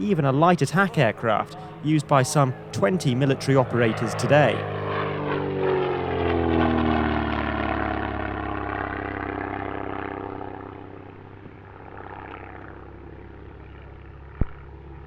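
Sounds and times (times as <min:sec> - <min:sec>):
propeller plane passing by: 0:00.0 - 0:15.0.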